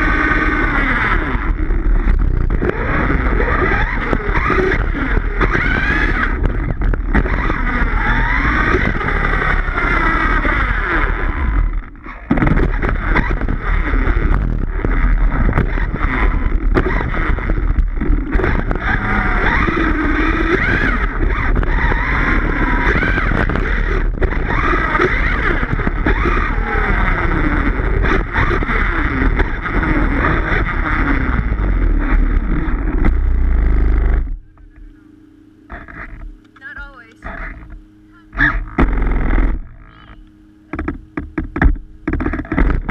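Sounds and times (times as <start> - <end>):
tyres rumbling on grass: 0.0 - 35.1
electric motor whining: 0.0 - 42.9.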